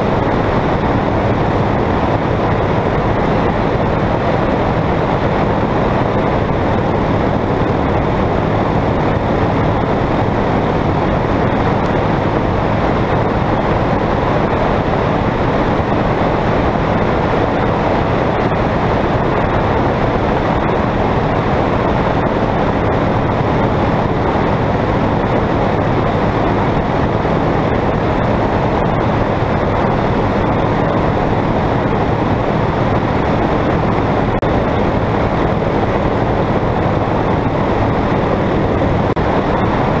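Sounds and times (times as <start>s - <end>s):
light aircraft engine and propeller: 0.0s - 40.0s
rush of airflow: 0.0s - 40.0s.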